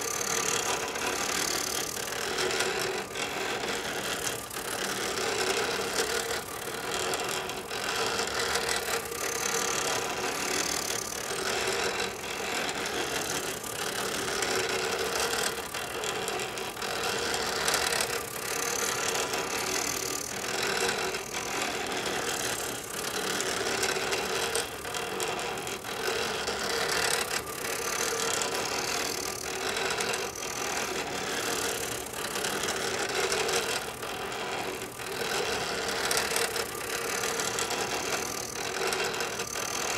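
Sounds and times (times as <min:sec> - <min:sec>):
stepper motors buzzing and whining: 0:00.0 - 0:39.9.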